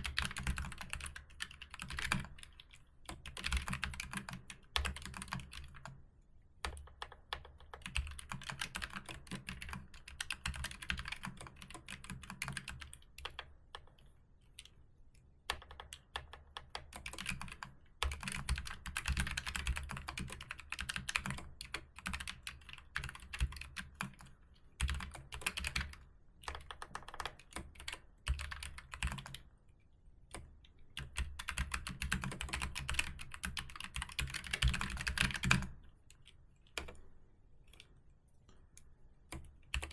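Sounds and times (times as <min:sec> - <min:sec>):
typing on computer keyboard: 0:00.0 - 0:06.0, 0:06.6 - 0:14.7, 0:15.5 - 0:29.5, 0:30.3 - 0:37.1, 0:39.3 - 0:39.9.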